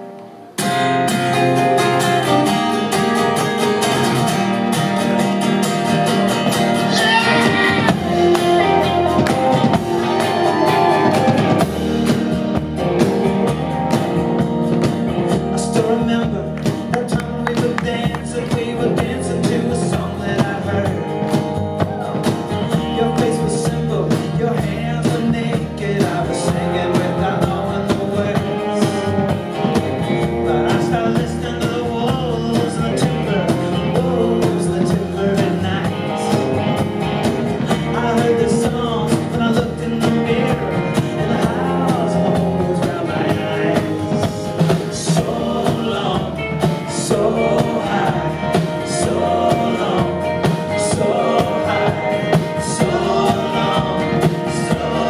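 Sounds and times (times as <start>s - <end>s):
electric guitar: 0.0s - 55.0s
strummed acoustic guitar: 0.0s - 55.0s
plucked upright bass: 7.5s - 55.0s.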